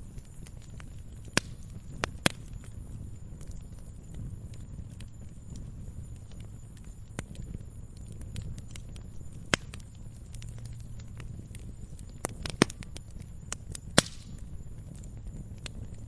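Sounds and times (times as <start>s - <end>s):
campfire crackling: 0.0s - 16.0s
low steady rumble: 0.0s - 16.0s.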